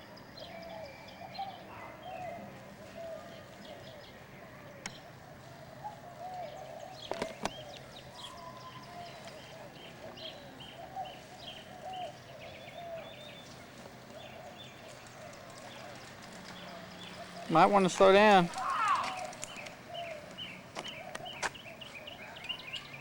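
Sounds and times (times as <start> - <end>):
birds chirping high: 0.0 - 23.0.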